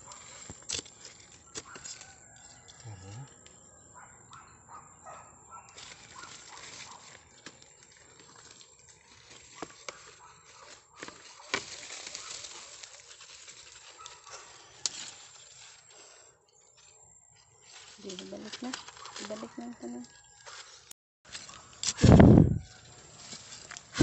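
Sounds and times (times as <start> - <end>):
hands scraping gravelly soil: 0.0 - 3.0, 5.7 - 24.0
dry leaves and roots rustling: 0.0 - 3.4, 5.5 - 24.0.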